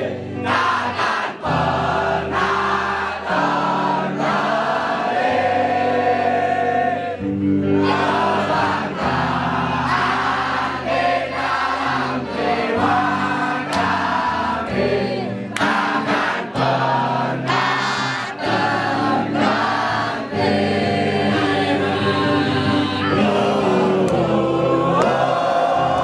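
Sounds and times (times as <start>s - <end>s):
crowd singing: 0.0s - 26.0s
musical accompaniment: 0.0s - 26.0s.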